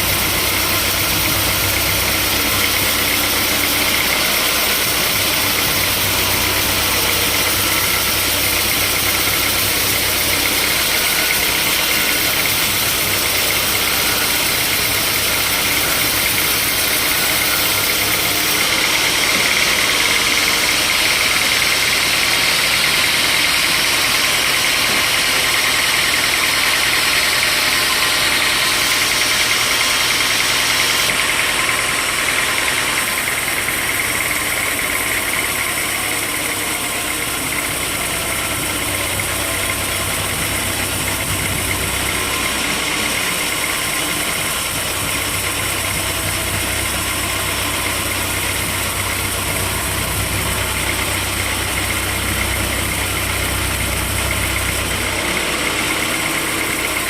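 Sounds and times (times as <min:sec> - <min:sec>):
sawmill saw whining: 0:00.0 - 0:57.0.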